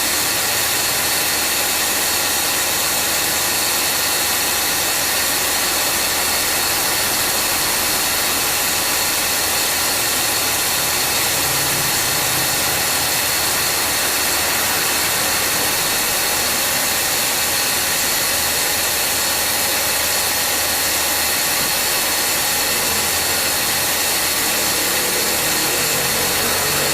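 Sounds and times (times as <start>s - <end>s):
mechanical whine of compressor: 0.0s - 26.9s
car engine running: 2.8s - 26.9s.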